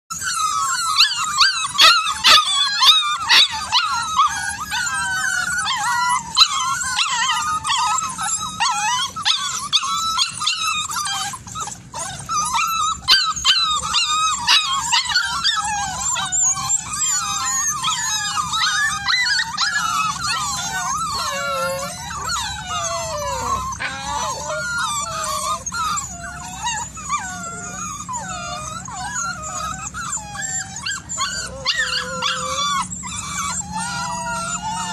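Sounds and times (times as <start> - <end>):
puppies whining and yelping: 0.1 - 34.9.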